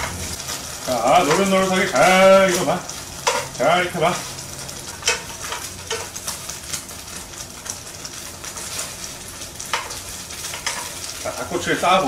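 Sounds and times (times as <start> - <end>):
skewers sizzling in a frying pan: 0.0 - 12.0.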